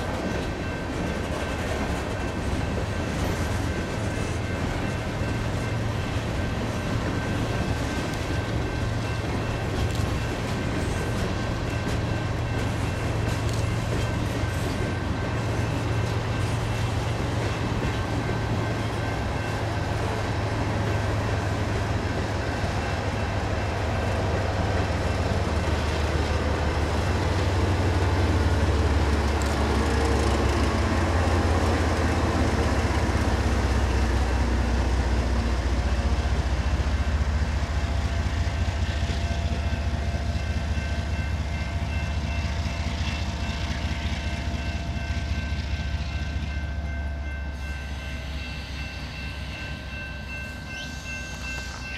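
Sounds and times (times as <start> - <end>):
diesel locomotive engine drone: 0.0 - 51.9
freight cars rolling on rails: 0.0 - 51.9.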